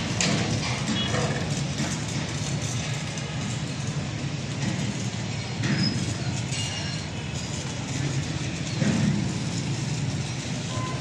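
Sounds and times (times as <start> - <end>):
farm machinery rumbling: 0.0 - 11.0.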